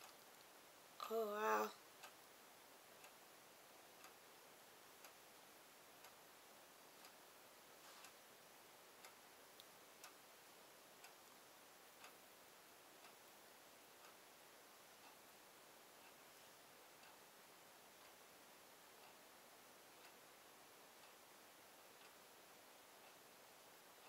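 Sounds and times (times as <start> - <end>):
clock ticking: 0.0 - 7.4, 8.0 - 24.0.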